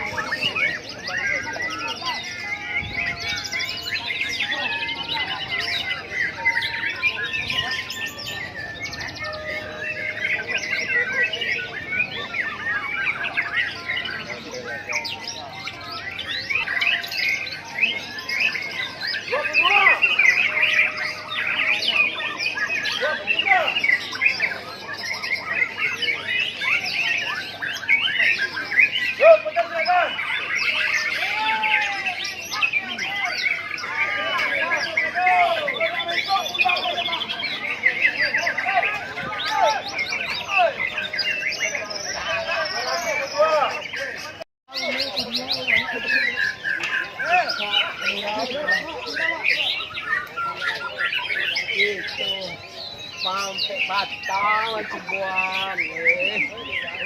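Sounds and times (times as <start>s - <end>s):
chorus of birds singing: 0.0s - 57.0s.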